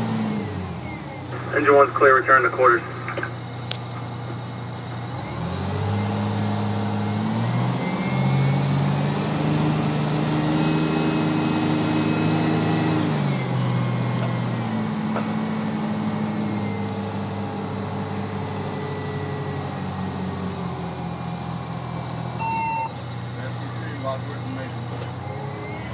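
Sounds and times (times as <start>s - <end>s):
truck engine from inside cab: 0.0s - 25.9s.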